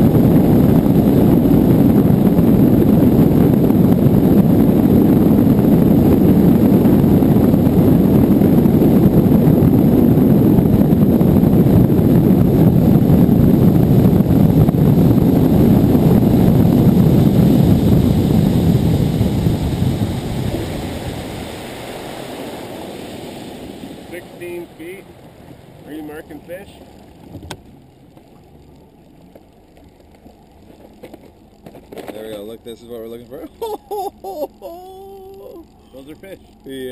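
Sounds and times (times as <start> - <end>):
boat rushing through water: 0.0 - 36.9.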